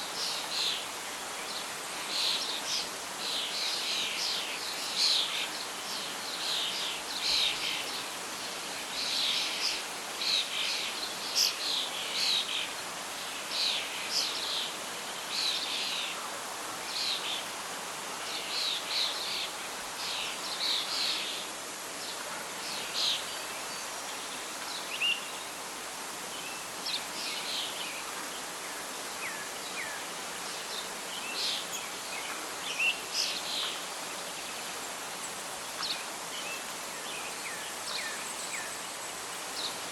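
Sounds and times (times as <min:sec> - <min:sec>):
wind rustling leaves: 0:00.0 - 0:39.9.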